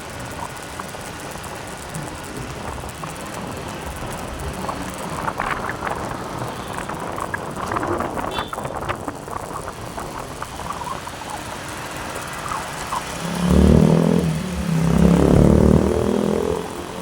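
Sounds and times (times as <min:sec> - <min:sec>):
motorcycle running on road: 0:00.0 - 0:17.0
wind noise on microphone: 0:00.0 - 0:17.0.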